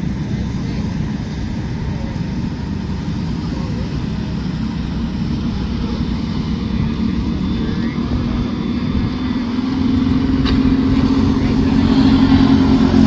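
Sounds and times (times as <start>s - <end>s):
kart engines buzzing: 0.0s - 13.0s.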